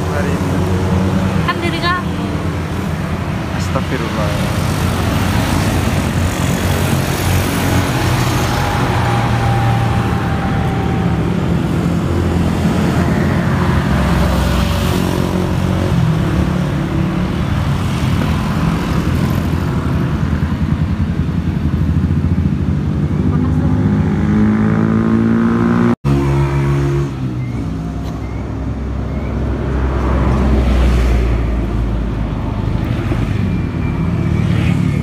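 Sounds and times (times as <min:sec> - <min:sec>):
motorbikes passing: 0:00.0 - 0:35.0.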